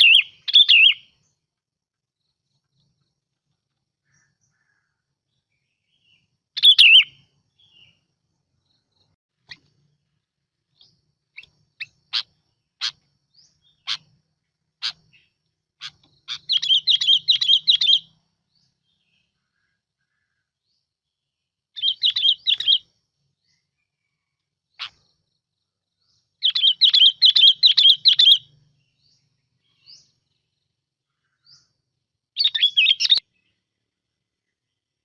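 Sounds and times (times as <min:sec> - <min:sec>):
bird song with chirps: 0:00.0 - 0:35.0.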